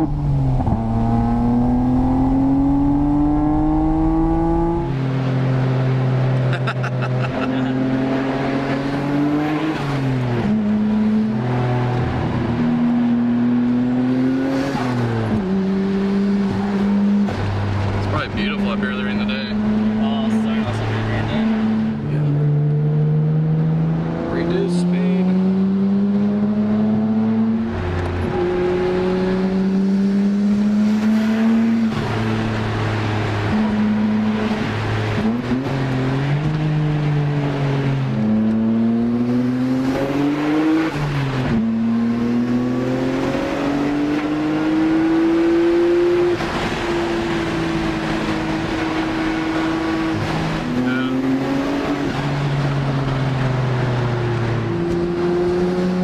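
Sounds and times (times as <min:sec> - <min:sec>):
car engine from inside cabin: 0:00.0 - 0:56.0
road noise: 0:00.0 - 0:56.0.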